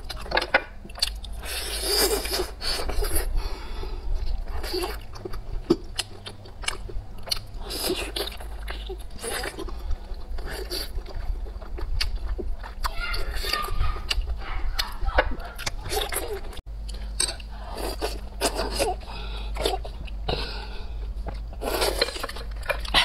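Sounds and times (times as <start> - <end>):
oysters slurped and chewed: 0.0 - 23.0.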